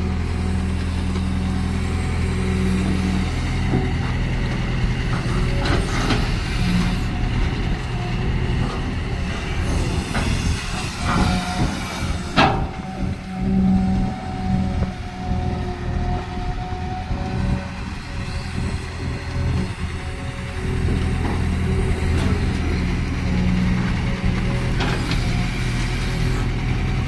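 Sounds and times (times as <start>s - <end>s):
excavator diesel engine running: 0.0s - 27.0s
metallic clanks and squeals: 2.8s - 15.0s, 17.2s - 27.0s.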